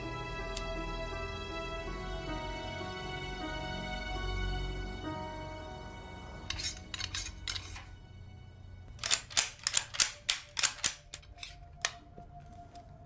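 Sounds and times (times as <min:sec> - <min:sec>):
faint sustained music tone: 0:00.0 - 0:13.0.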